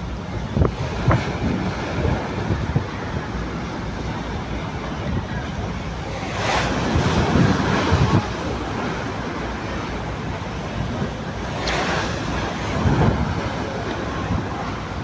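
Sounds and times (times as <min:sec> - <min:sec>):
sea waves washing: 0:00.0 - 0:15.0
wind blowing across microphone: 0:00.0 - 0:15.0.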